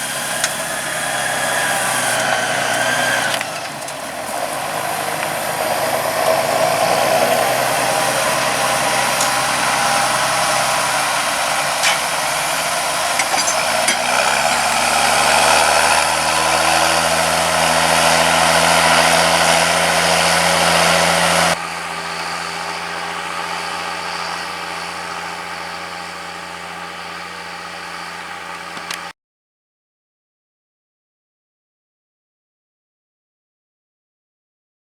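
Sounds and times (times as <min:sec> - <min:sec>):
tractor diesel engine running: 0:00.0 - 0:29.1.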